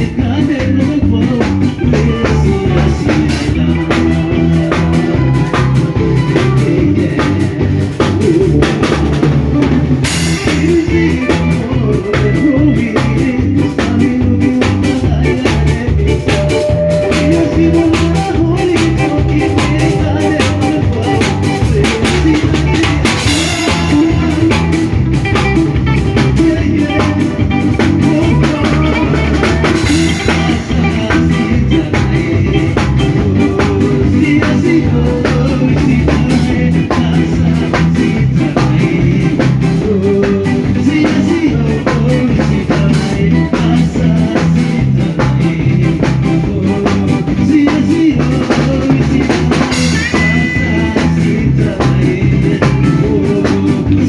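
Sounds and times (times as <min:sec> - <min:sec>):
drum kit: 0:00.0 - 0:54.0
guitar: 0:00.0 - 0:54.0.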